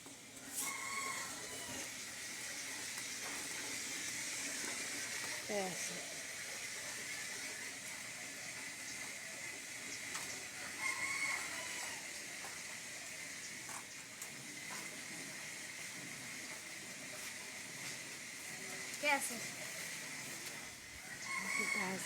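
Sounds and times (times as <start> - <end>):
campfire burning: 0.0 - 22.0.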